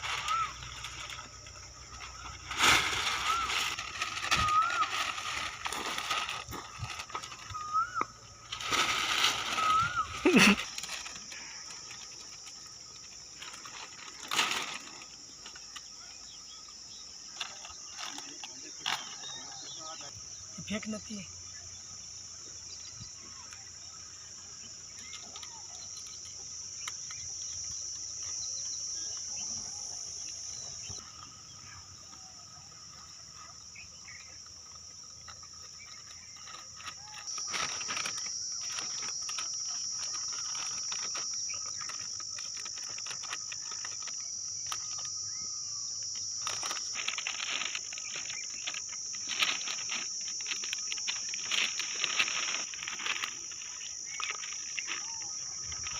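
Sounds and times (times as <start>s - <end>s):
insects droning: 0.0s - 55.9s.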